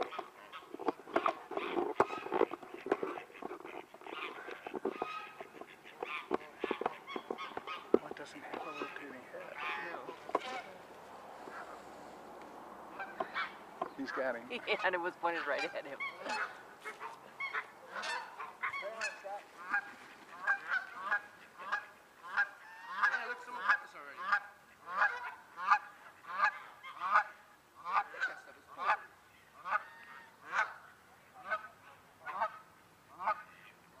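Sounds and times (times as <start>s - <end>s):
geese honking: 0.0s - 34.0s.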